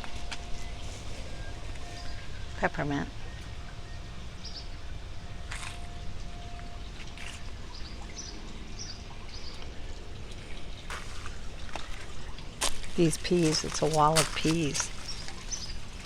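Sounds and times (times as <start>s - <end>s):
water trickling and pouring: 0.0s - 16.0s.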